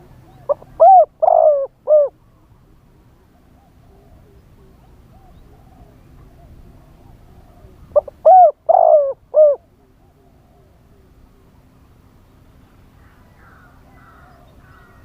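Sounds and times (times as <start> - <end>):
dove cooing: 0.0 - 2.2, 3.2 - 11.6, 13.0 - 15.0
faint doves cooing: 0.0 - 15.0.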